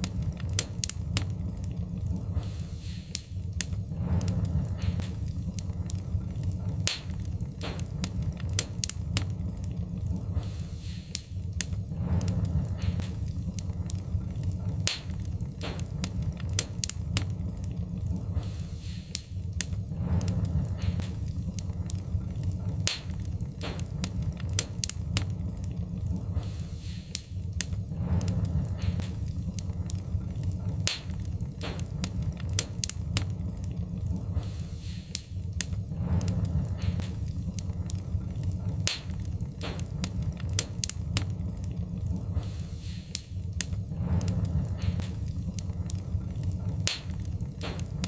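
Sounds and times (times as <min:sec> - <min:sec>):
burning logs rumbling: 0:00.0 - 0:48.0
wood fire crackling: 0:00.0 - 0:48.0.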